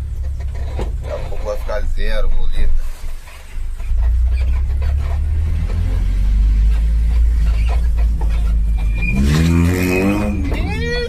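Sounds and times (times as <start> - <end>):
vehicle engine rumbling and revving: 0.0 - 11.0.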